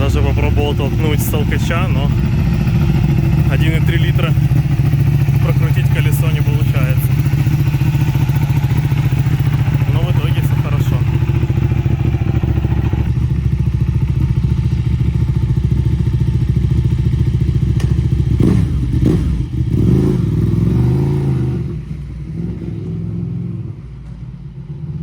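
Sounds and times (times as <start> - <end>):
motorcycle engine idling: 0.0 - 22.9
motorcycle engine revving: 0.0 - 23.9.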